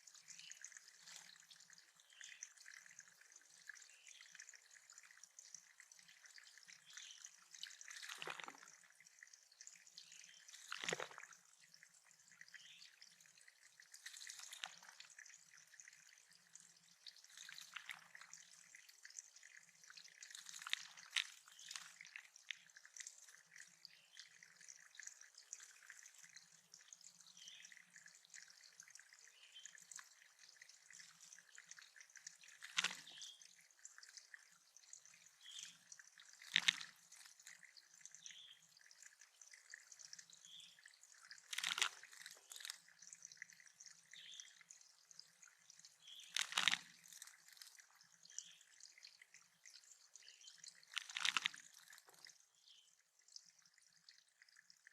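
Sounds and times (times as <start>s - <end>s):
water dripping and trickling: 0.0s - 54.9s.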